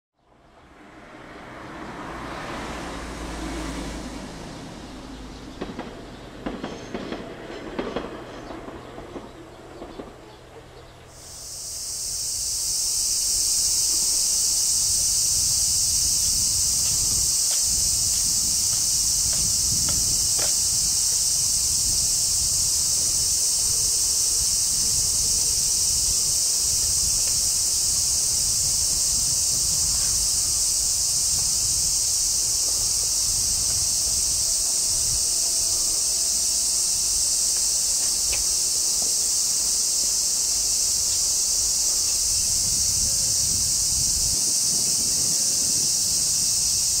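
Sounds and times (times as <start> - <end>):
cicadas chorus: 0.2 - 47.0
train clattering over rails: 3.5 - 11.4, 13.6 - 47.0.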